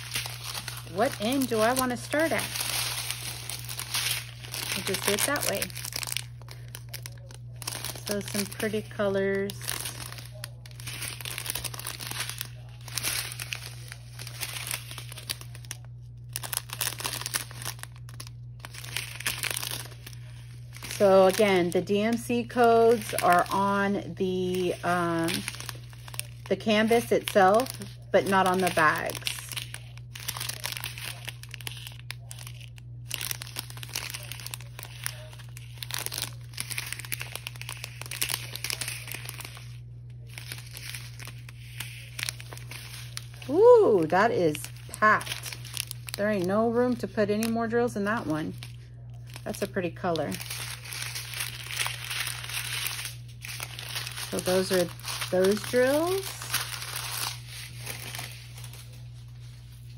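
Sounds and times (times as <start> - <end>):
plastic bags crinkling: 0.0 - 59.9
steady low hum: 0.0 - 59.9.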